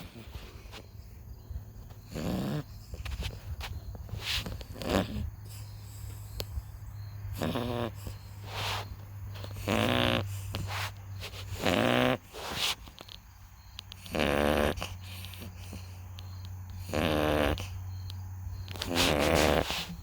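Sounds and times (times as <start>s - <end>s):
puppy snoring loudly: 0.0s - 0.7s, 1.8s - 12.9s, 13.9s - 16.0s, 16.7s - 18.0s, 18.6s - 20.0s.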